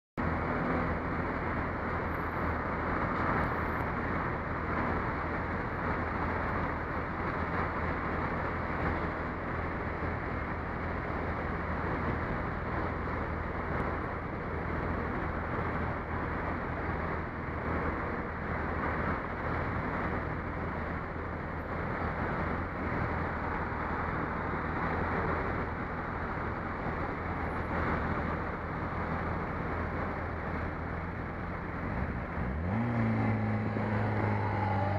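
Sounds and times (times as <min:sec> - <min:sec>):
muffled road traffic: 0:00.2 - 0:34.9.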